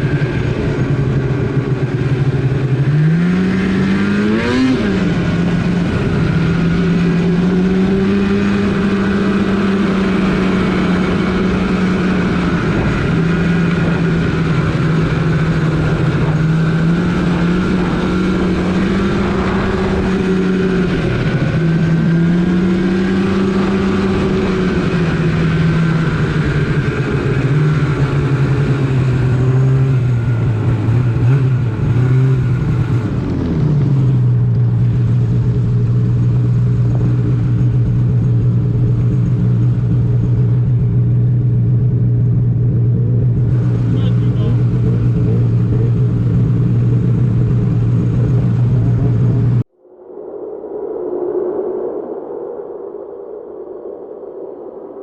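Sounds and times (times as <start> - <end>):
snowmobile engine revving: 0.0 - 49.7.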